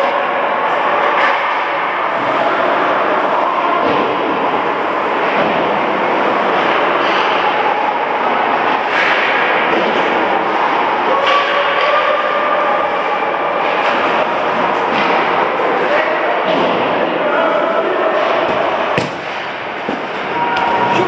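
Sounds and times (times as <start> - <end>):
crowd noise: 0.0 - 21.0.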